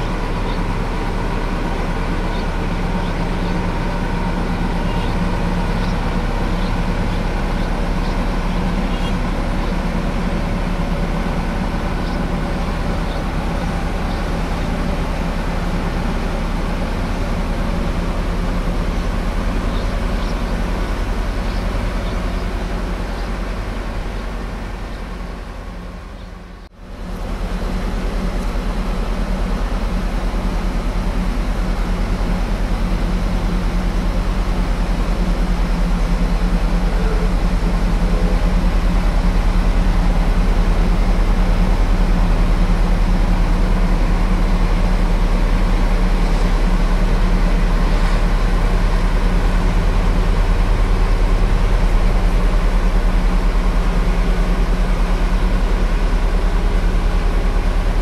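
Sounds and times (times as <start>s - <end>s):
large engine droning: 0.0s - 58.0s.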